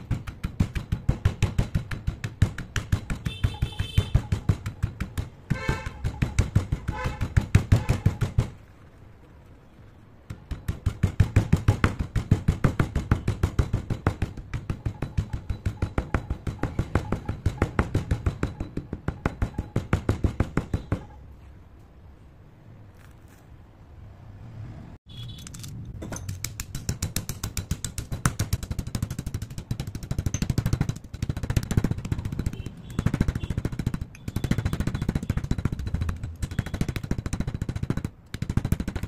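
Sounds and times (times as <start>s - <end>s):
stone pestle pounding chalk: 0.0s - 8.7s, 10.2s - 21.2s, 25.9s - 39.0s.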